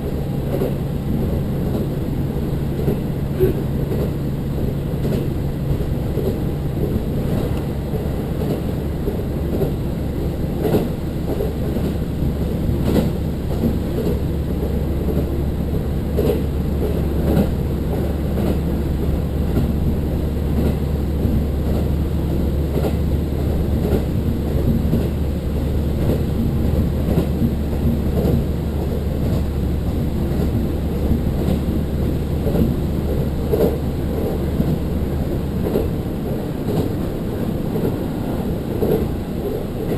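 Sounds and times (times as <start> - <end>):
railcar engine and wheels drone: 0.0 - 39.9
wheels clicking on rails: 2.8 - 39.9.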